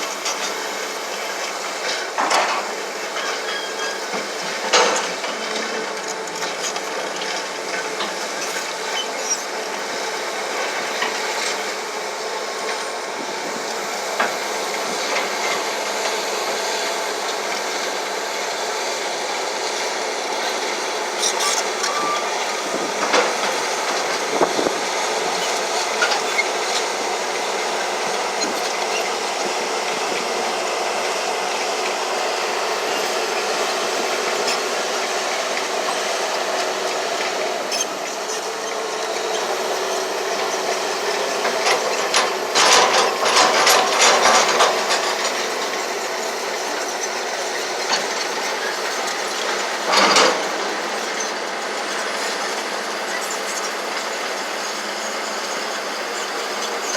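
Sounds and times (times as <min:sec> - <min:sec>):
heavy earthmoving machine running: 0:00.0 - 0:56.9.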